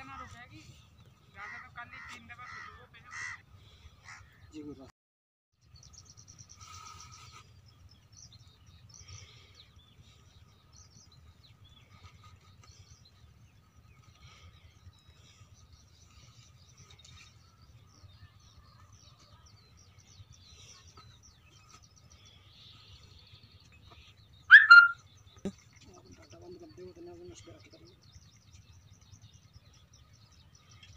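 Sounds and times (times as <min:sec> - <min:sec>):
faint bird chirps: 0:05.7 - 0:30.9.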